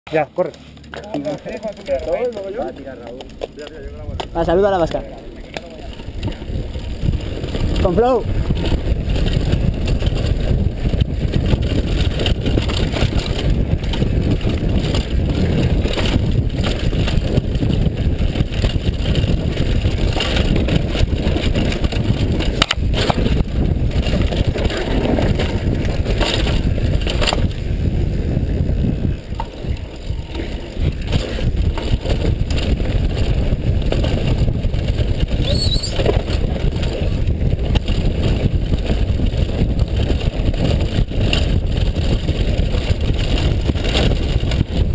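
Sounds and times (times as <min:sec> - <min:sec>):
mountain bike rattling on gravel: 0:00.1 - 0:44.9
wind rush on microphone: 0:01.0 - 0:44.9.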